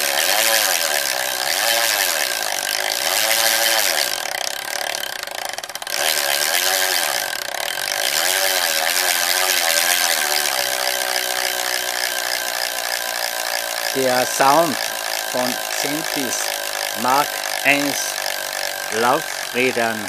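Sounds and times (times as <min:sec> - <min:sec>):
bicycle freehub buzzing: 0:00.0 - 0:20.0
spinning wheel whirring hiss: 0:00.0 - 0:20.0.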